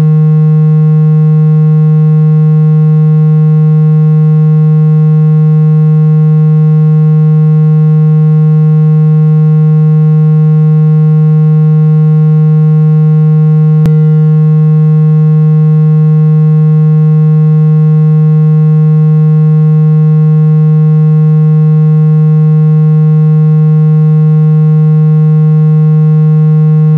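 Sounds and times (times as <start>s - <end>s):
loud steady low synthesized tone: 0.0s - 26.9s.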